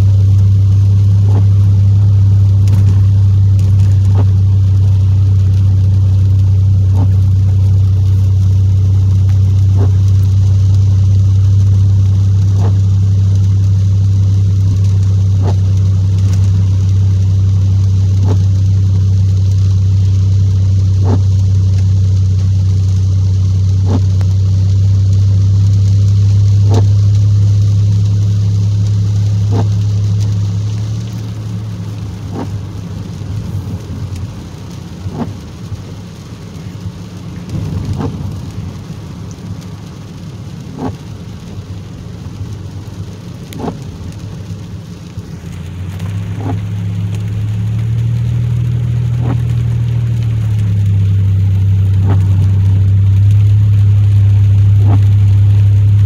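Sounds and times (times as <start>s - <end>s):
car engine droning: 0.0s - 56.0s
windshield wiper ticking: 0.0s - 56.0s.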